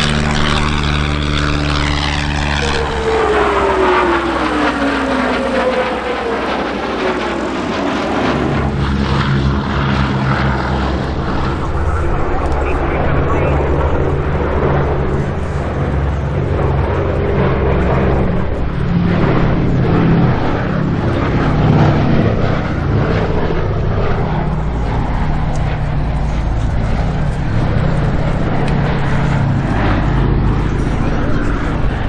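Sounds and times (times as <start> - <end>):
broad rushing noise: 0.0 - 32.0
engines droning: 0.0 - 32.0.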